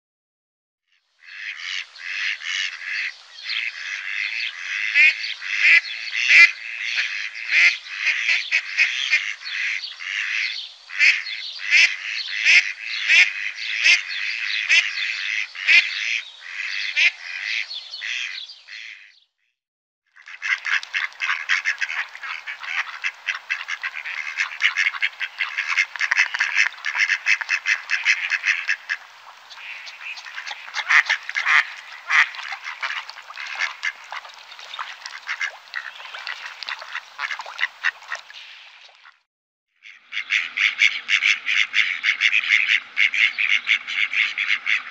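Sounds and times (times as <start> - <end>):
ducks quacking: 1.2 - 19.1, 20.2 - 39.2, 39.8 - 44.9.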